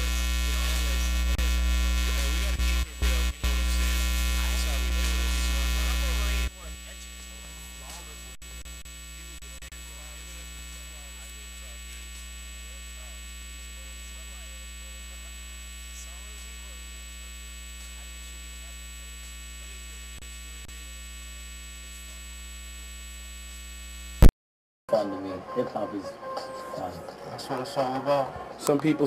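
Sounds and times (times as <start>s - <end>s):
electrical mains hum: 0.0s - 24.3s.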